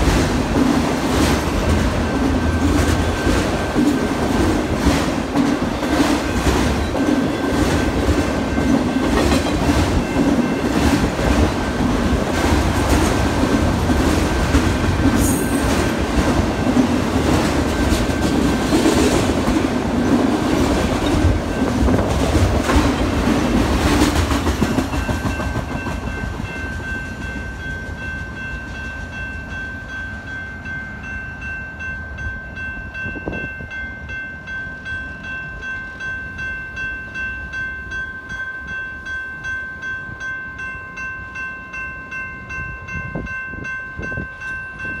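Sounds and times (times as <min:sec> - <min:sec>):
railroad crossing bell ringing: 0:00.0 - 0:45.0.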